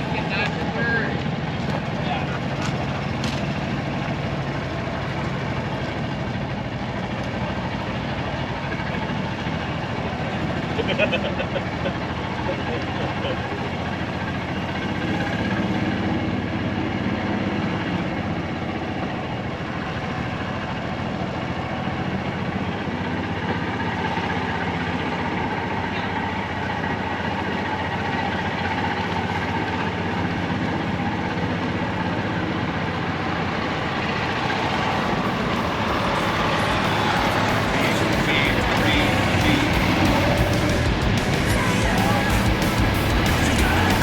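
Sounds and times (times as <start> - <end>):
truck engines idling: 0.0 - 44.0.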